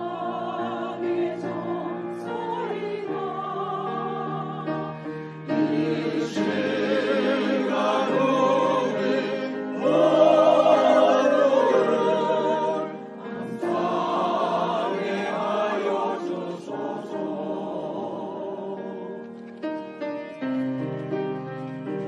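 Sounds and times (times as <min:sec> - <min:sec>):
choir singing a hymn: 0:00.0 - 0:19.3
piano accompaniment: 0:00.0 - 0:22.0.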